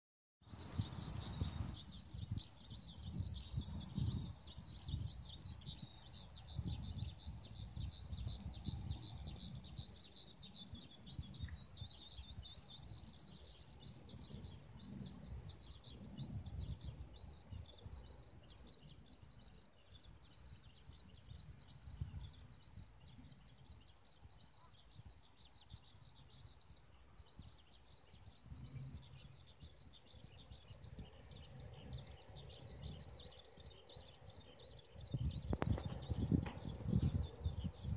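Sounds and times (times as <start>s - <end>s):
wind rumble on microphone: 0.5s - 37.9s.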